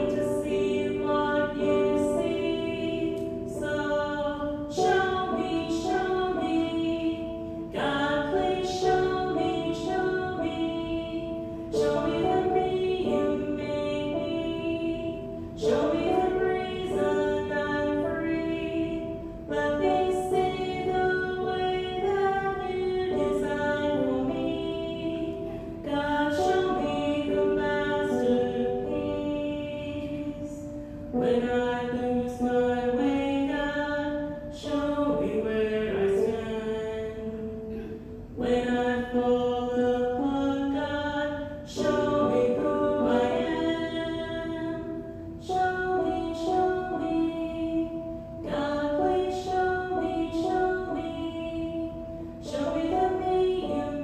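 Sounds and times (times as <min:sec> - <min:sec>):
electric keyboard chords: 0:00.0 - 0:54.0
woman singing: 0:00.0 - 0:54.0.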